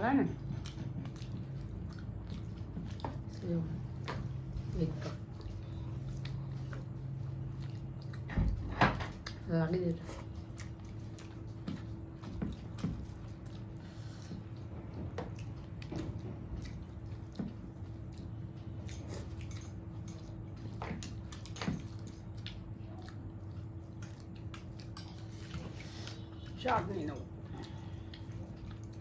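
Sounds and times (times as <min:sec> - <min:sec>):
faint steady hum: 0:00.0 - 0:29.0
chewing and wet squishing: 0:00.2 - 0:29.0.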